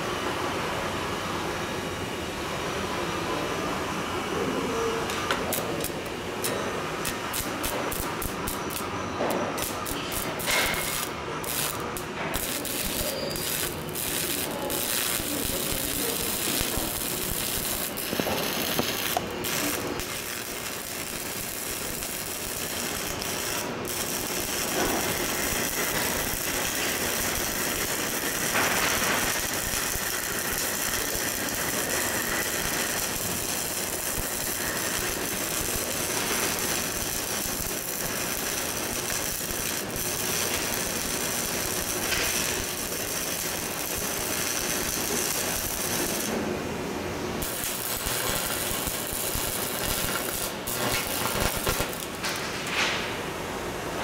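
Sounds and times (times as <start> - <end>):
welding arc crackling: 5.1 - 46.6, 47.3 - 52.8.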